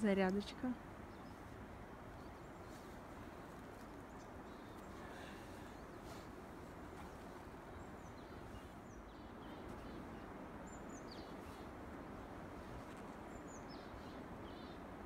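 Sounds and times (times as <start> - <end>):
small birds chirping: 0.0 - 15.0
steady low background noise: 0.0 - 15.0.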